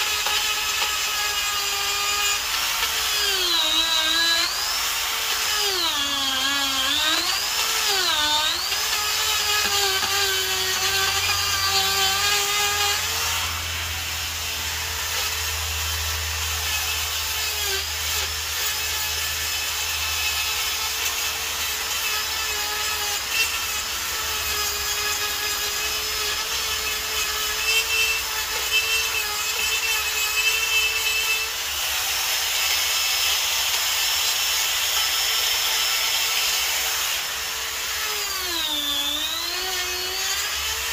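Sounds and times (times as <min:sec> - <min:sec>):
burr rasping wood: 0:00.0 - 0:40.9
die grinder whining: 0:00.0 - 0:40.9.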